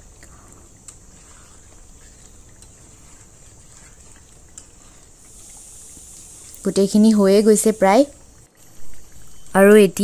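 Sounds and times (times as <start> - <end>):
masala frying in oil: 0.0 - 10.0.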